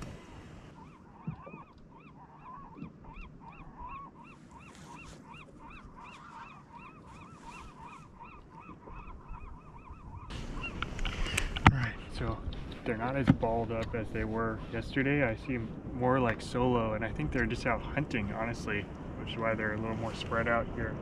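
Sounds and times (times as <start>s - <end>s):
wind and water hiss: 0.0s - 21.0s.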